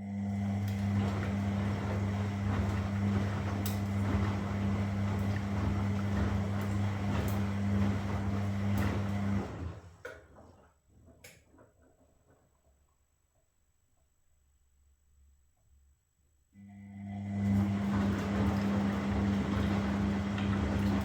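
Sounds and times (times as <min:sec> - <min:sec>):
washing machine humming: 0:00.0 - 0:12.4, 0:16.6 - 0:21.0.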